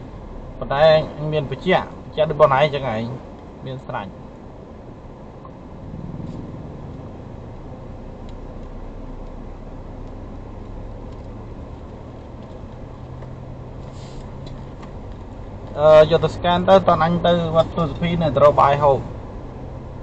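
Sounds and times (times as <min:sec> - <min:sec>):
engine humming: 0:00.0 - 0:20.0
tyre and road rumble: 0:00.0 - 0:20.0.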